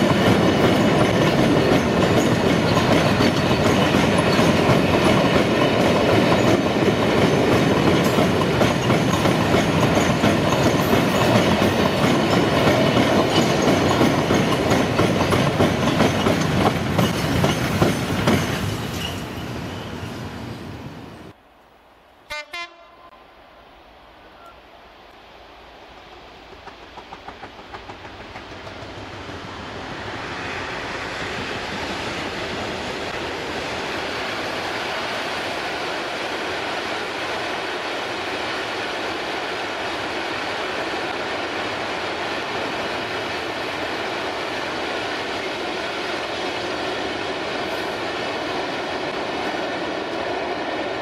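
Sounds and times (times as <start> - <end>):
train wagons rolling on rails: 0.0 - 21.4, 25.8 - 51.0.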